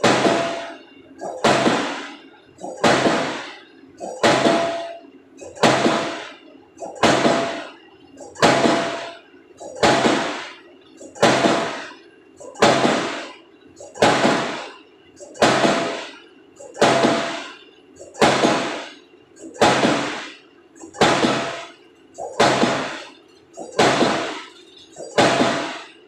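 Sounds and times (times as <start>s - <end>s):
pile hammer blows: 0.0s - 26.0s.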